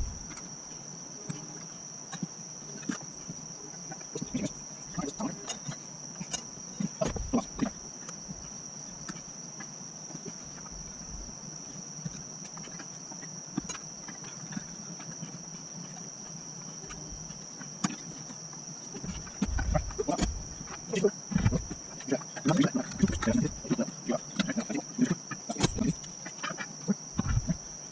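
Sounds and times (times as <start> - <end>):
high-pitched insect trill: 0.0 - 27.9.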